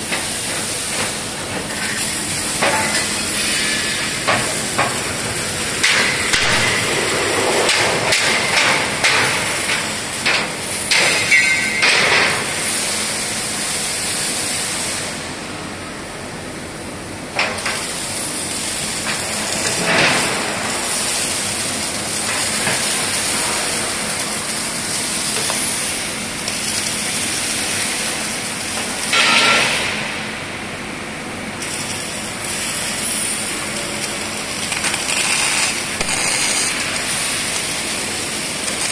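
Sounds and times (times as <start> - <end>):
welding hiss and crackle: 0.0 - 38.9.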